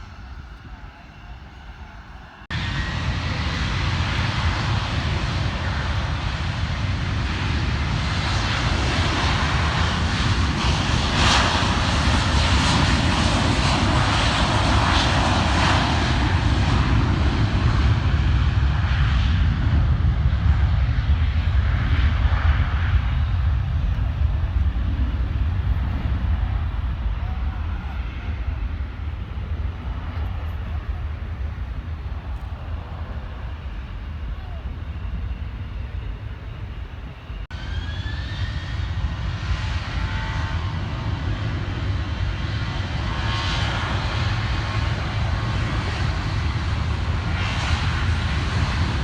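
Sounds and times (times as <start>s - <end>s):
jet airliner passing: 0.0s - 49.0s.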